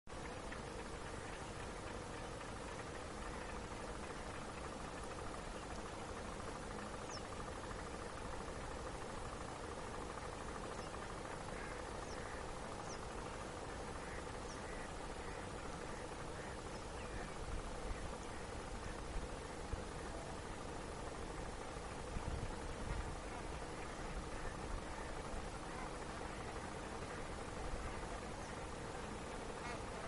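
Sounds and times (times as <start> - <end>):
geese calling faintly: 0.1 - 30.0
steady background hiss: 0.1 - 30.0.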